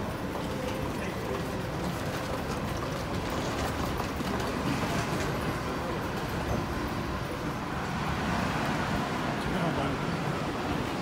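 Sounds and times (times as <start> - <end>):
car road and tyre noise: 0.0 - 11.0.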